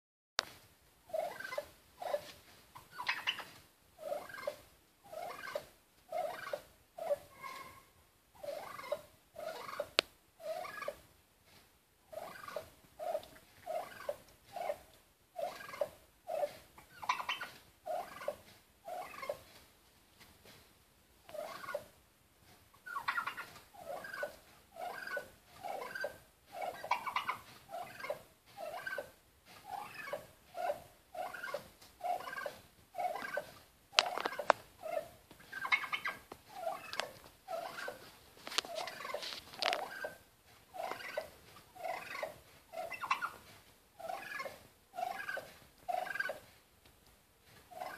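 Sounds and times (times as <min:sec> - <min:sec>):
turkey calling: 0:01.1 - 0:07.8, 0:08.4 - 0:11.0, 0:12.1 - 0:19.4, 0:21.3 - 0:21.9, 0:22.8 - 0:43.4, 0:44.0 - 0:46.5.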